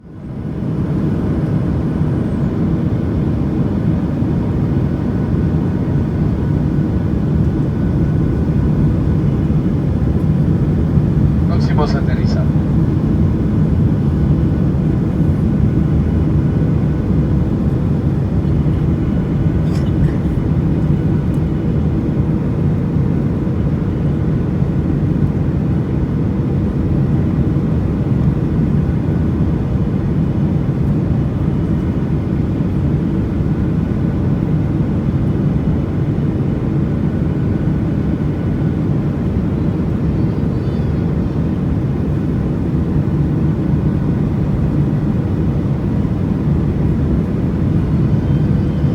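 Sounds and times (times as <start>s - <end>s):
aircraft cabin engine rush: 0.1s - 48.9s.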